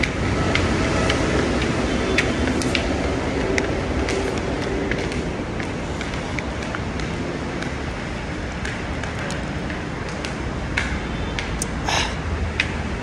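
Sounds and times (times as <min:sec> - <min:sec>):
highway traffic noise: 0:00.0 - 0:13.0.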